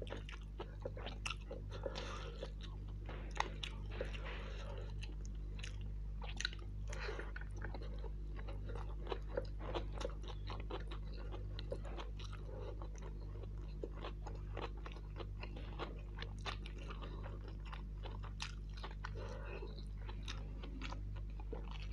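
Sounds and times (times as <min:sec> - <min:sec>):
person chewing: 0:00.0 - 0:21.9
steady low hum: 0:00.0 - 0:21.9.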